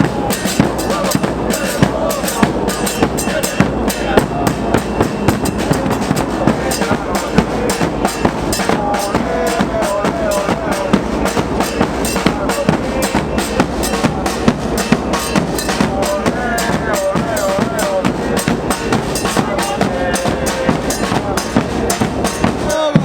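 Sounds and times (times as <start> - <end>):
drums beating fast rhythm: 0.0 - 23.0
fans chanting: 0.0 - 23.0.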